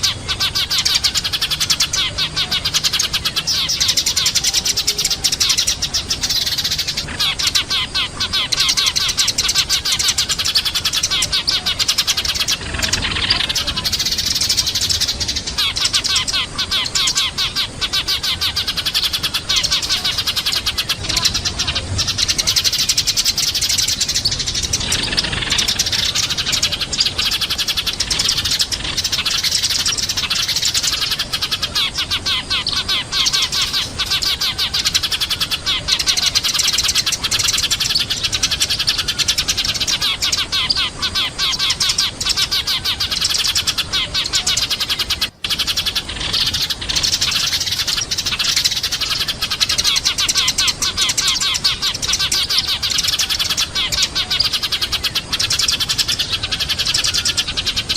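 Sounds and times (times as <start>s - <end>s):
sparrows chirping: 0.0s - 57.9s.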